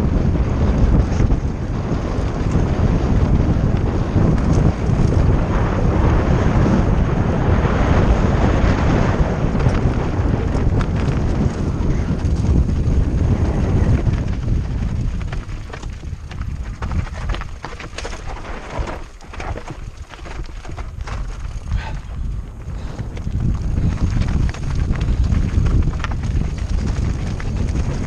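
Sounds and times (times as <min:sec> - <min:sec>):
bike clicks and rattles: 0:00.0 - 0:28.0
bike tyres rolling: 0:00.0 - 0:28.0
wind buffeting microphone: 0:00.0 - 0:28.0.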